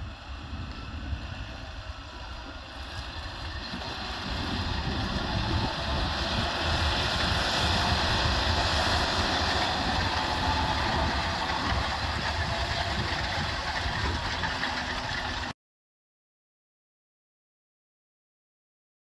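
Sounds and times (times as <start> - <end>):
tractor diesel engine under load: 0.0 - 15.6.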